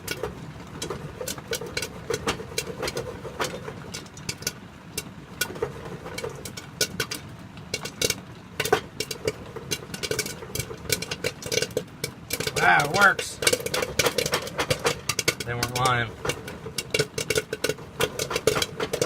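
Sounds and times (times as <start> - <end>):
popcorn popping in a pot: 0.0 - 19.0.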